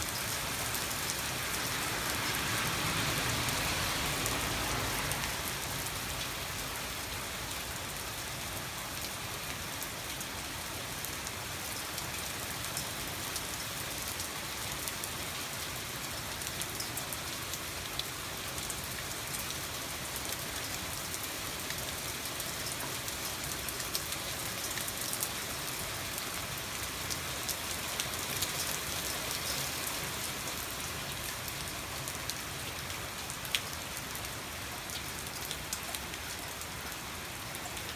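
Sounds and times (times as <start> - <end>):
heavy rain: 0.0 - 37.9
raindrops ticking on surfaces: 0.0 - 37.9.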